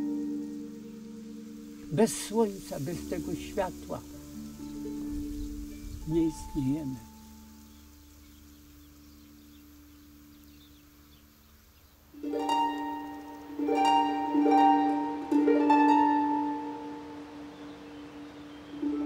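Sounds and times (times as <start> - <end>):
soft plucked notes: 0.0 - 10.7, 12.2 - 19.0.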